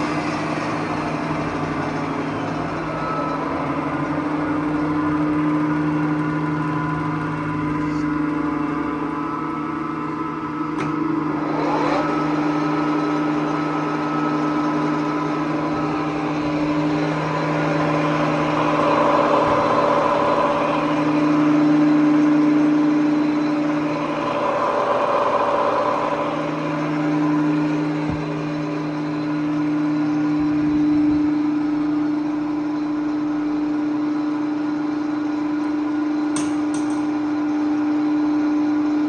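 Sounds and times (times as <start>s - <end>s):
lathe machine hum and whine: 0.0s - 39.0s.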